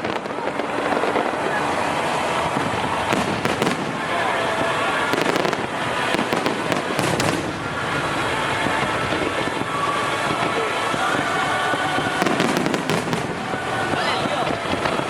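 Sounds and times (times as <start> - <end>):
sharp firework pops: 0.0 - 1.6, 2.4 - 15.0
fireworks crackling: 0.0 - 15.0.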